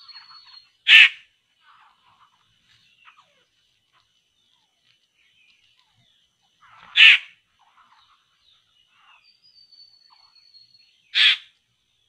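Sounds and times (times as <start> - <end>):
harsh bird calls: 0.0 - 3.6, 5.3 - 11.6
faint bird chirps: 0.0 - 12.0.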